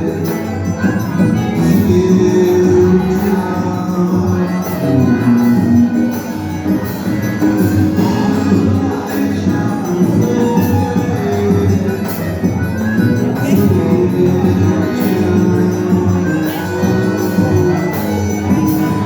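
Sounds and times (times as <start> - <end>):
band dance music: 0.0 - 19.0
jingling high percussion: 0.0 - 19.0.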